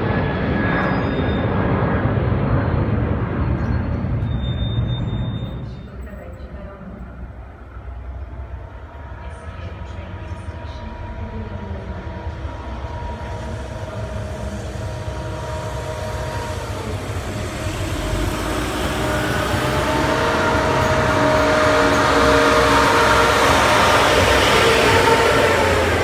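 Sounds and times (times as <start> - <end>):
train passing with whining tones: 0.0 - 26.0.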